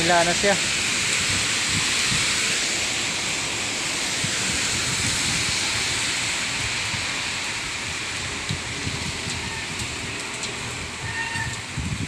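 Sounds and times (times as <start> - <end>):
rain falling on wet street: 0.0 - 12.0.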